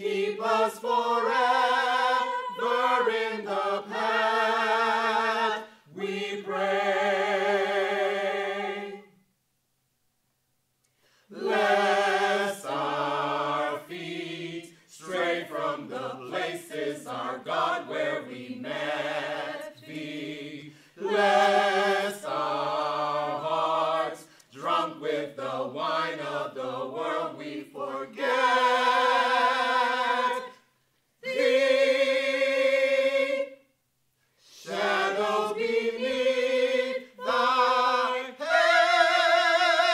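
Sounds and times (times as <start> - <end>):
choir singing a cappella: 0.0 - 9.2, 11.2 - 33.8, 34.4 - 39.9.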